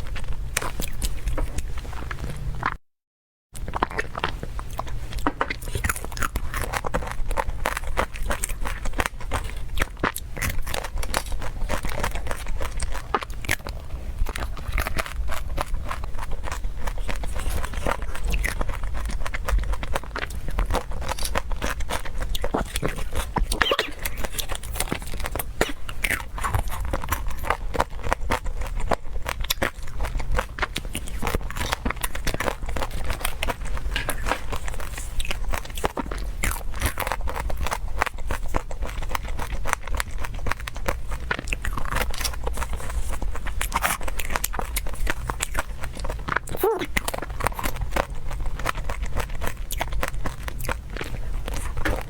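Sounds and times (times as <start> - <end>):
crisp crackles of food: 3.6 - 52.0
person biting and chewing: 3.6 - 52.0.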